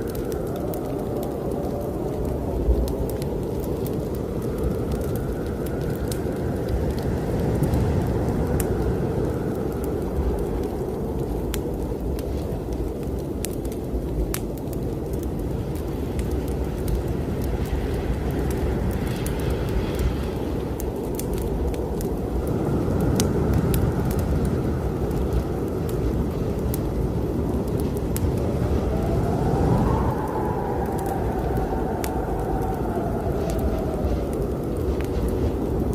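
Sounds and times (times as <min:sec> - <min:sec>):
fireplace fire crackling: 0:00.0 - 0:35.9
strong snowstorm wind: 0:00.0 - 0:35.9.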